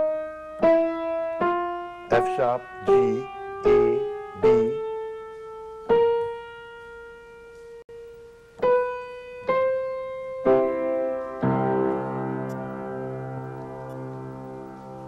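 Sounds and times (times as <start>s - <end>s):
piano chord: 0.0s - 15.0s
piano single notes: 0.0s - 15.0s.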